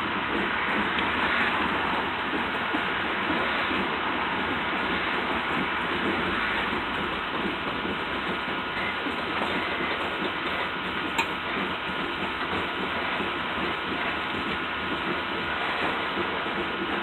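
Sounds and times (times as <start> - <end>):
rattling rail cars: 0.0 - 17.0
train wheels on track: 0.0 - 17.0.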